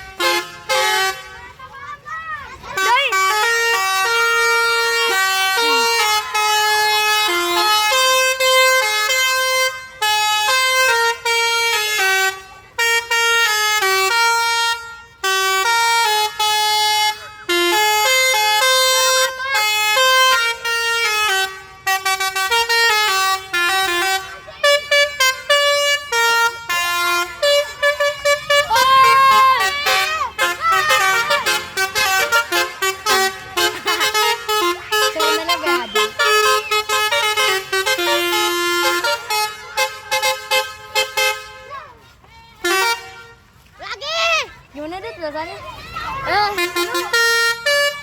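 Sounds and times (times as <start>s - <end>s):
bus horn playing a tune: 0.0s - 1.7s, 2.5s - 43.7s, 46.2s - 48.0s.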